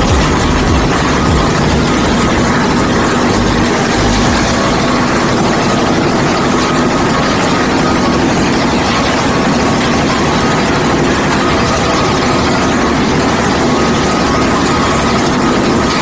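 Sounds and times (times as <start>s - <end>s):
concrete mixer engine running: 0.0s - 16.0s.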